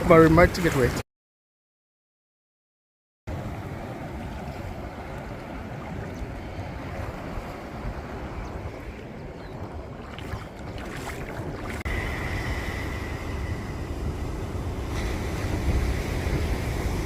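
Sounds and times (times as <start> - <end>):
sea waves washing: 0.0 - 1.0, 3.3 - 17.0
wind buffeting microphone: 3.3 - 17.0.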